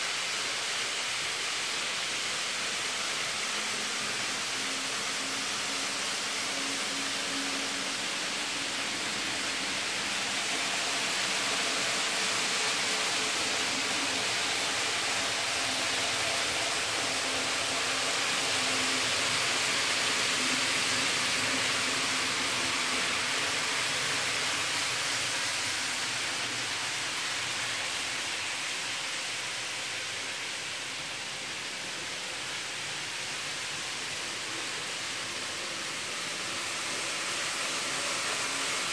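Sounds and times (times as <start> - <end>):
model trains whirring: 0.0 - 38.9.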